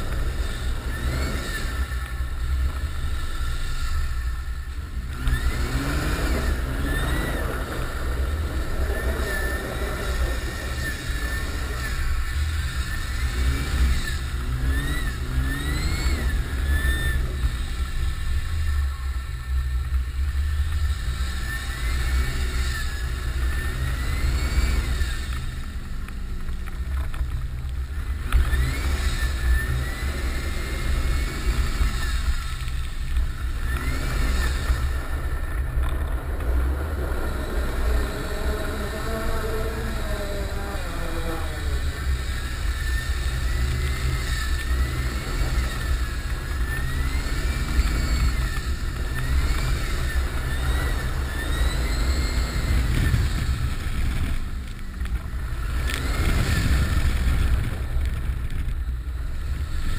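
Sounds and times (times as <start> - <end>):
turbocharger whistling: 0.0 - 25.8, 28.2 - 59.9.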